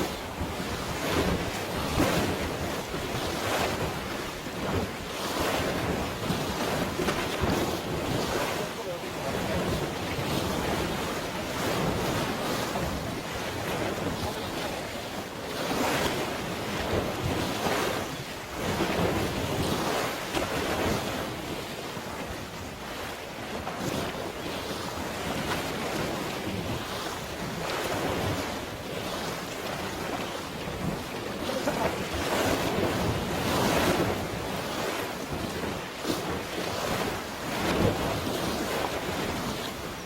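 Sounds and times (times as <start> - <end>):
water waves washing: 0.0 - 40.0
wind buffeting microphone: 0.0 - 40.0.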